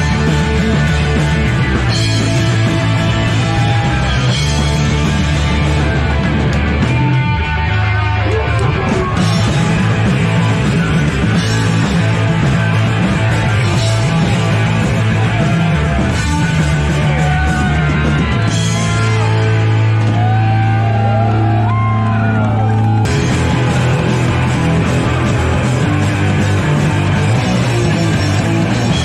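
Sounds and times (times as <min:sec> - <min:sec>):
punk rock band playing loudly: 0:00.0 - 0:29.0.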